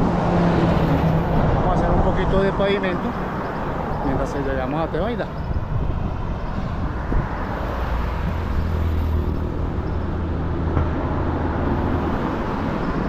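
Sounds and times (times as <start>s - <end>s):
passing vehicle rumble: 0.0s - 13.0s
road traffic noise: 0.0s - 13.0s.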